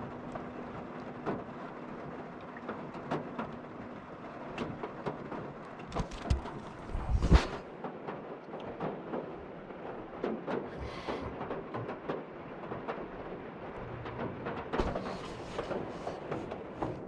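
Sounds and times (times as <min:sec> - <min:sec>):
rain on a vehicle roof: 0:00.0 - 0:17.0.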